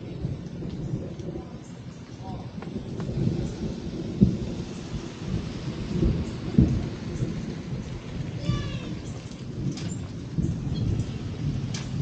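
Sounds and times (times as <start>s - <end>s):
low uneven rumble: 0.0s - 12.0s
rain falling: 0.0s - 12.0s.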